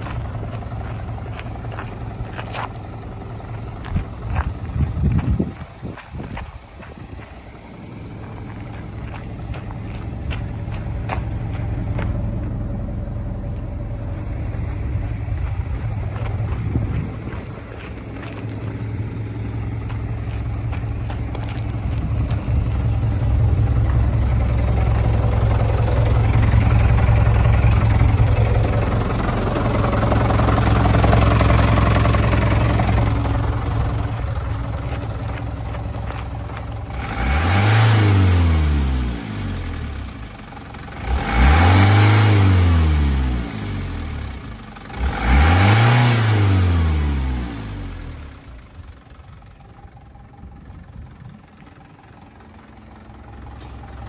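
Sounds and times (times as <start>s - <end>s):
diesel engine idling and revving: 0.0s - 54.0s.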